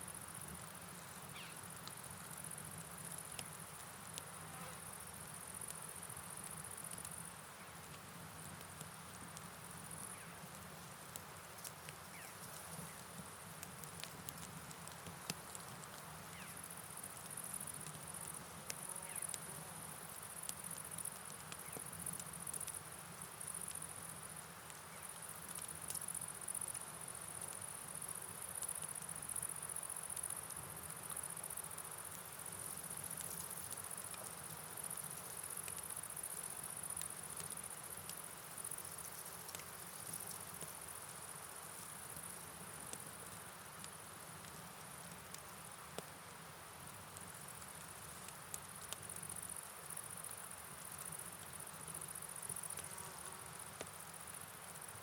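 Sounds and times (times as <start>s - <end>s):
soft rain: 0.0s - 55.0s
insects chirring: 0.1s - 7.8s, 8.7s - 44.2s, 47.1s - 55.0s
faint ticks: 0.1s - 46.2s, 46.8s - 55.0s.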